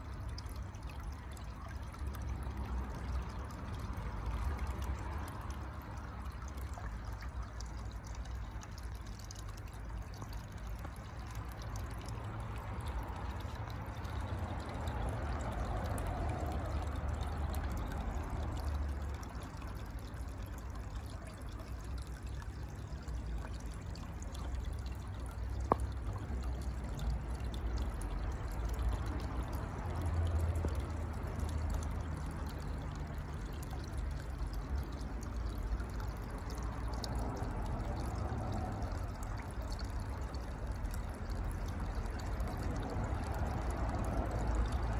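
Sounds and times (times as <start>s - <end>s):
water pouring into pond: 0.0s - 44.9s.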